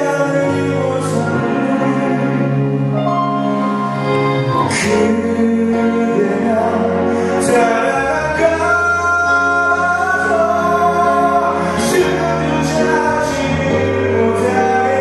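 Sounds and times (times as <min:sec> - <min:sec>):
man singing ballad: 0:00.0 - 0:03.1, 0:04.0 - 0:15.0
instrumental accompaniment: 0:00.0 - 0:15.0.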